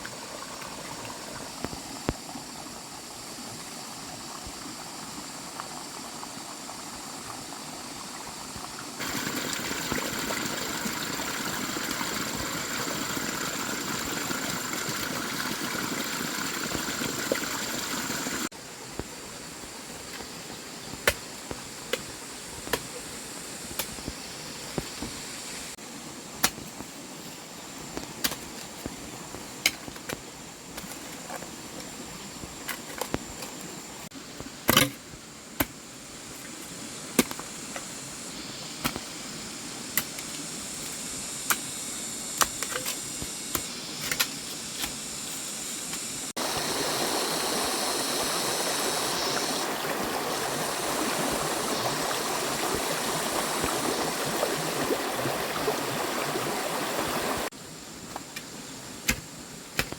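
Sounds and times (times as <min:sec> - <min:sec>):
running water rushing: 0:00.0 - 0:41.2, 0:46.0 - 0:59.9.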